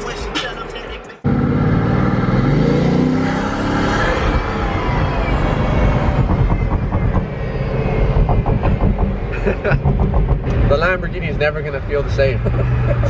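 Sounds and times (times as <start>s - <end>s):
car engine accelerating hard: 1.2s - 13.0s.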